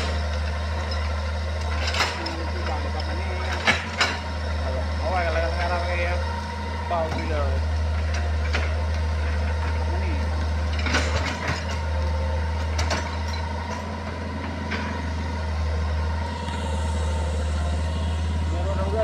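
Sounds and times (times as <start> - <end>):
excavator diesel engine whining: 0.0 - 19.0.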